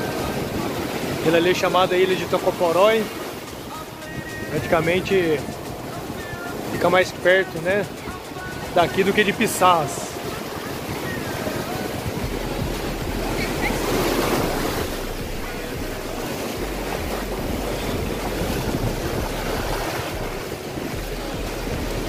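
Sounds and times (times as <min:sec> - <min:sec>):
waves breaking on beach: 0:00.0 - 0:22.0
wind rumbling on microphone: 0:00.0 - 0:22.0.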